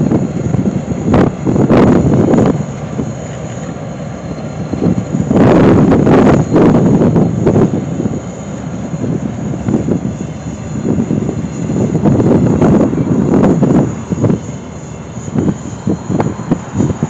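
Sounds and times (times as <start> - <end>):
locomotive engine rumble: 0.0 - 17.0
rolling rail noise: 0.0 - 17.0.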